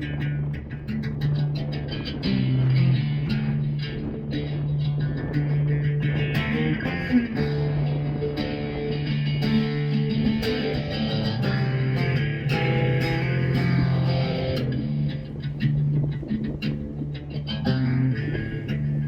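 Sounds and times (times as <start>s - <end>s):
guitar-led instrumental music: 0.0s - 19.0s.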